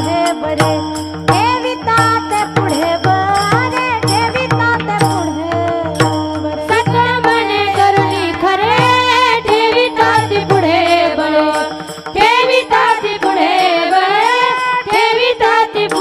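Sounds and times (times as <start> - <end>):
percussion beat: 0.0 - 16.0
woman singing devotional song: 0.0 - 16.0.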